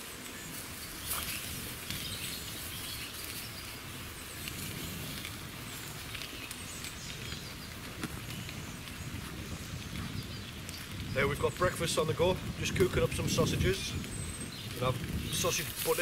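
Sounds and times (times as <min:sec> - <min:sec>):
birds chirping: 0:00.0 - 0:16.0
campfire crackling: 0:00.0 - 0:16.0
sausages sizzling in a pan: 0:00.0 - 0:16.0.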